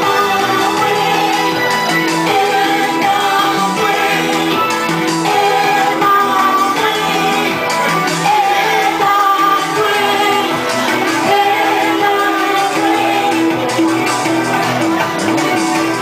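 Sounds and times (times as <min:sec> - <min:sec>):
band accompaniment: 0:00.0 - 0:16.0.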